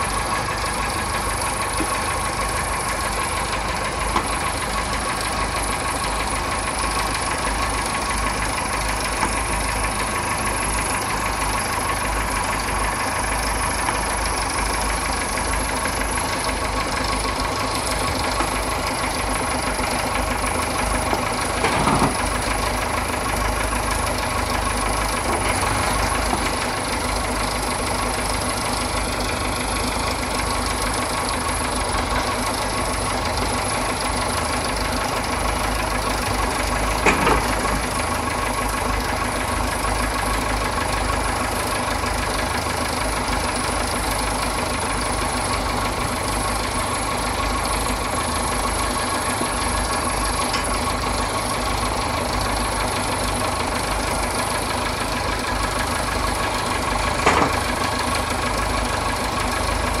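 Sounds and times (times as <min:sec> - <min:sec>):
tractor engine idling: 0:00.0 - 1:00.0.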